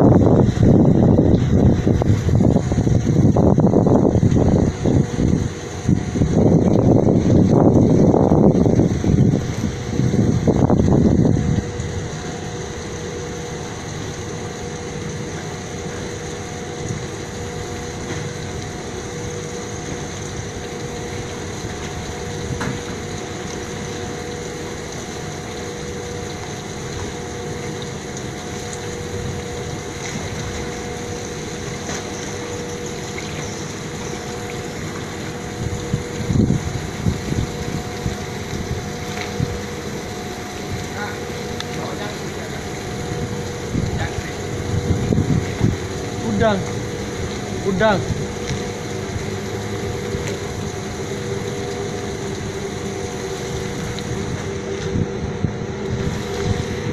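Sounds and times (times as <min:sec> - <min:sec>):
steady mechanical hum: 0:00.0 - 0:56.9
wind buffeting microphone: 0:00.0 - 0:56.9.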